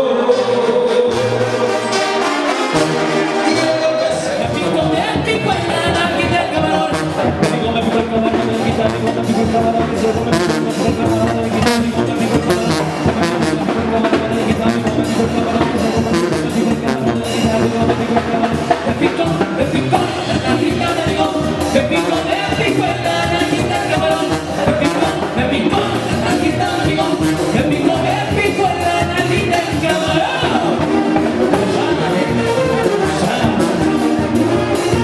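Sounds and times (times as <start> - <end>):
brass and tuba: 0.0 - 35.0
men singing: 0.0 - 35.0
steady drum beat: 2.1 - 35.0.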